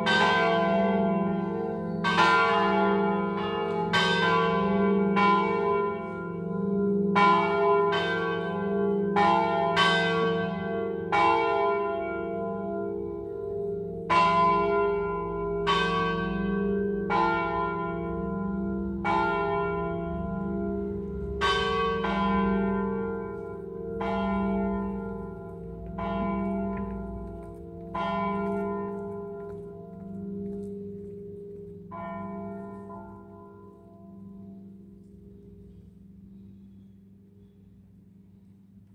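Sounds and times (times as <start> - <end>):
swinging church bells ringing: 0.0 - 36.5.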